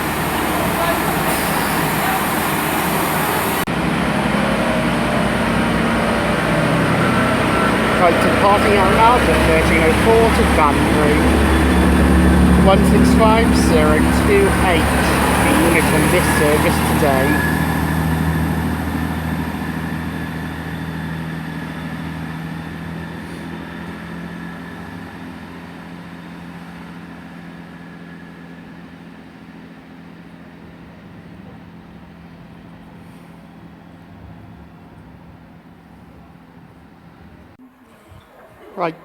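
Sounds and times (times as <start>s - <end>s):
diesel train engine droning: 0.0s - 37.6s.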